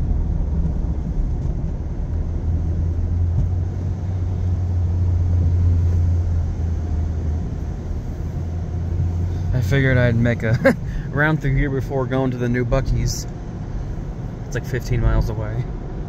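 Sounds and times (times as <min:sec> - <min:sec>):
car wash machinery rumble: 0:00.0 - 0:16.0.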